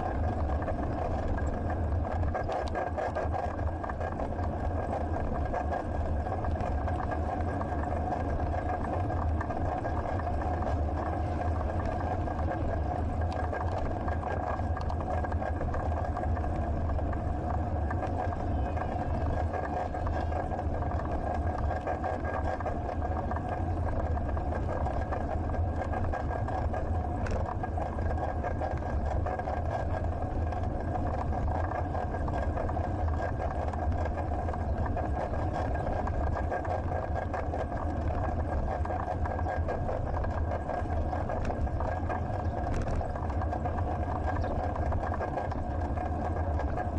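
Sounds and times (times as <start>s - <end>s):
faint steady whine: 0.0s - 46.9s
wind rumble on microphone: 0.0s - 46.9s.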